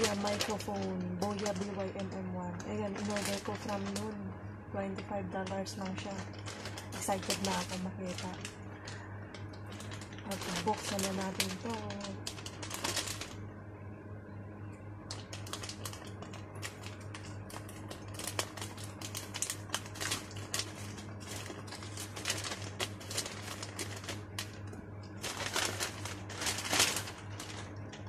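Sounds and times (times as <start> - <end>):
scissors snipping plastic bag: 0.0 - 4.2, 5.0 - 13.4, 15.1 - 28.0
plastic rustling: 0.0 - 13.5, 15.0 - 28.0
steady low hum: 0.0 - 28.0.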